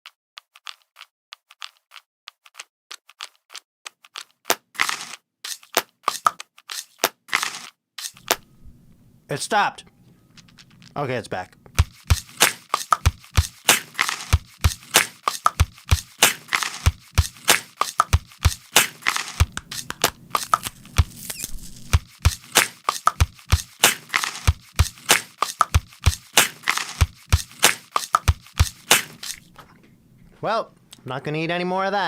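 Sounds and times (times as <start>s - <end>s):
rhythmic clicks and crunches on apple: 0.1s - 8.4s, 11.5s - 29.6s.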